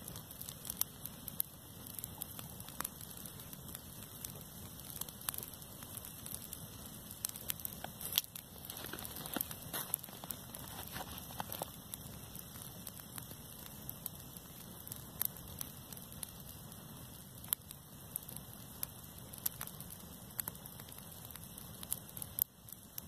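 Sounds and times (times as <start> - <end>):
dry grass burning crackle: 0.0 - 23.0.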